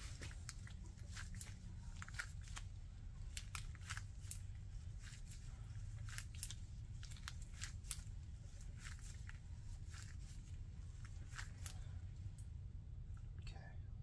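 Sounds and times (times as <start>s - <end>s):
clicks and rustles of hands handling parts: 0.0s - 11.8s
low steady hum: 0.0s - 14.0s.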